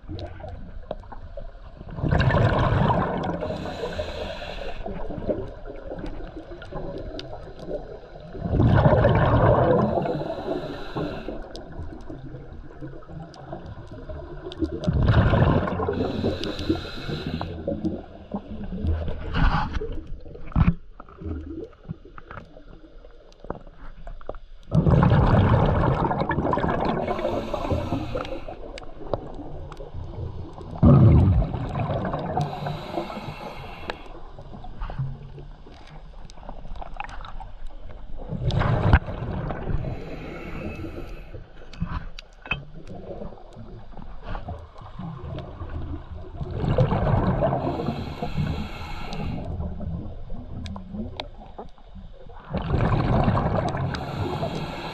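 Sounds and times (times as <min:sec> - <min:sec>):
exhaled bubbles gurgling: 0:00.0 - 0:23.6, 0:24.6 - 0:54.9
water noise: 0:00.0 - 0:54.9.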